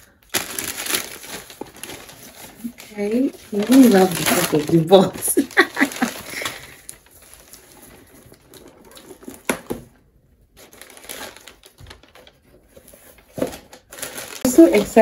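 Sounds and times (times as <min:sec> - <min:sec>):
paper rustling: 0:00.3 - 0:09.5, 0:10.6 - 0:15.0.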